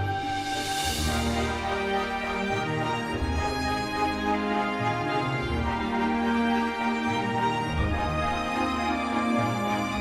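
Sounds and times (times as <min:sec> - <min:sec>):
background music held chords: 0:00.0 - 0:10.0.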